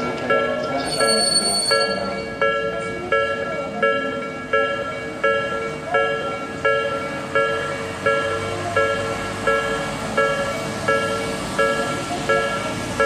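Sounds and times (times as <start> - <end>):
level crossing warning bell ringing: 0.0 - 13.0.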